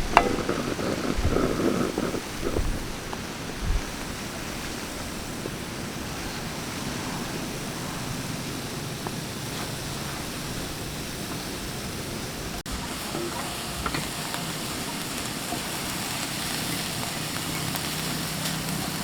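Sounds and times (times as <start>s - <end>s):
rain hissing: 0.0s - 19.0s
wind: 0.0s - 19.0s.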